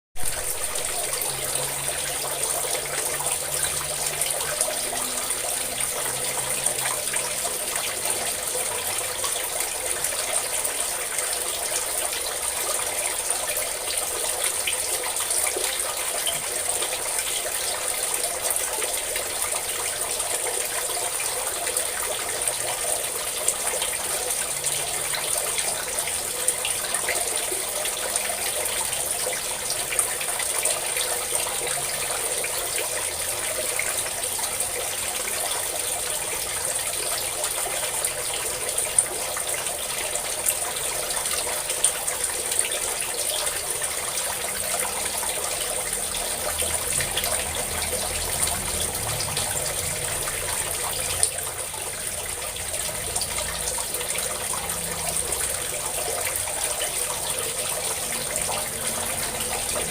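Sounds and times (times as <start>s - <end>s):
water pouring and splashing: 0.2s - 59.9s.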